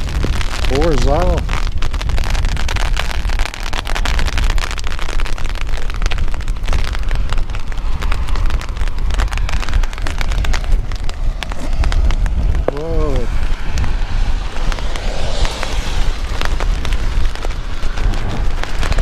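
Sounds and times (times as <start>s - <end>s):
rain spattering: 0.0s - 19.0s
wind buffeting microphone: 0.0s - 19.0s.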